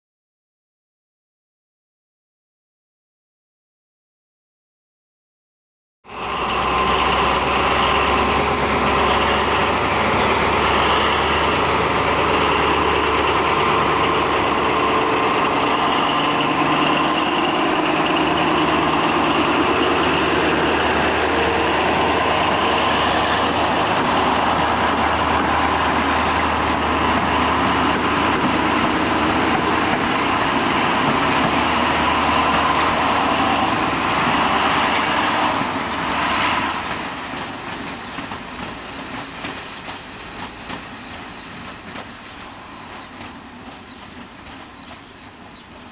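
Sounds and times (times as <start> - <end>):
diesel locomotive engine drone: 6.0 - 45.9.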